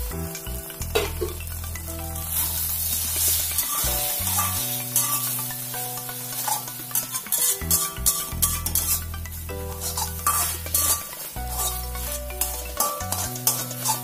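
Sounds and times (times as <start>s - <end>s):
background music: 0.0s - 14.0s
egg sizzling in oil: 0.0s - 14.0s.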